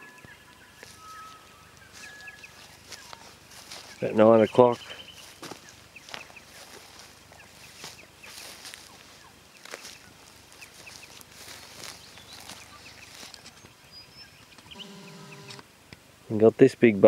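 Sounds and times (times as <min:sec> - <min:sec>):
faint bird chirps: 0:00.0 - 0:15.6
footsteps crunching dry grass: 0:00.2 - 0:15.6.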